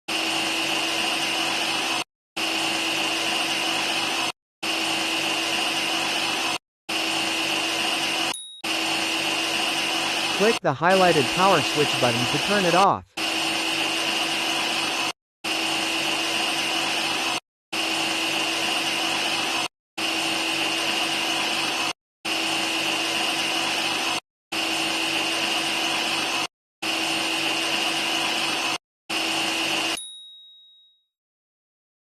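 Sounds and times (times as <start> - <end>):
bandsaw machine whine: 0.1 - 30.0.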